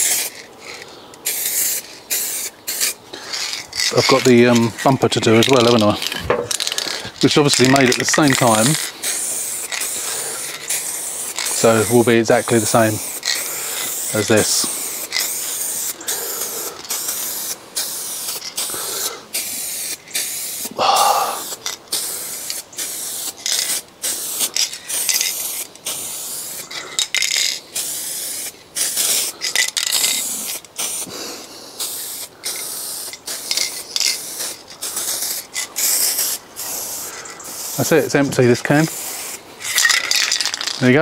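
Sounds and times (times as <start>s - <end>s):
aerosol spray can hissing: 0.0s - 40.9s.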